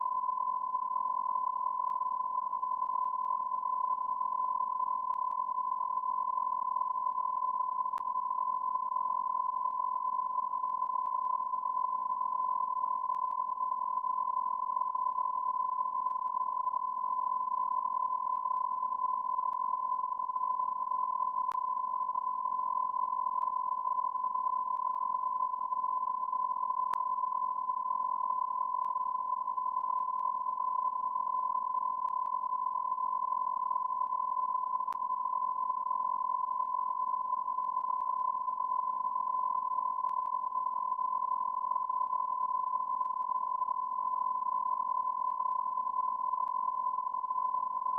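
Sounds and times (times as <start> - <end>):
steady electronic beep tone: 0.0 - 47.9.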